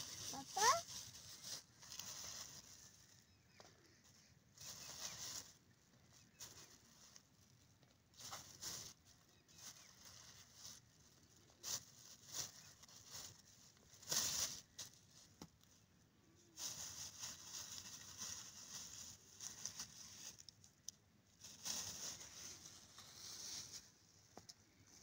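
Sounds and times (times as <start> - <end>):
plastic bag rustling and crinkling: 0.0 - 25.0.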